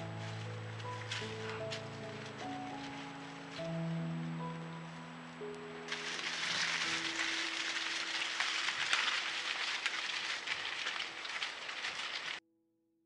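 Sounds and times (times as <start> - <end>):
crackling and rustling in dry leaves: 0.0 - 12.4.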